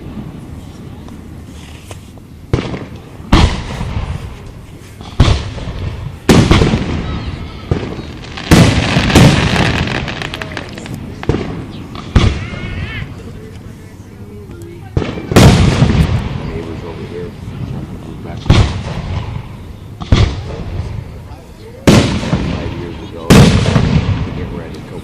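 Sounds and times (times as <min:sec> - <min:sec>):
fireworks booming: 0:00.0 - 0:13.4, 0:14.8 - 0:25.0
fireworks crackle: 0:00.0 - 0:25.0.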